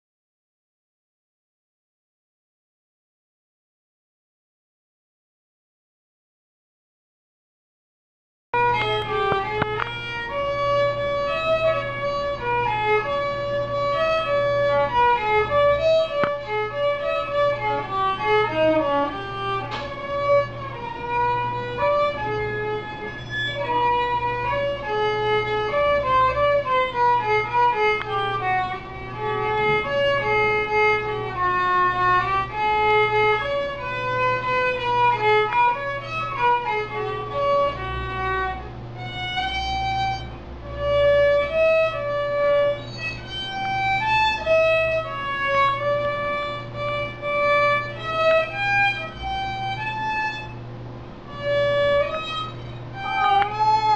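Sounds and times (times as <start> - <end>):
steady low hum: 8.6 - 53.9
violin playing slow melody: 8.6 - 53.9.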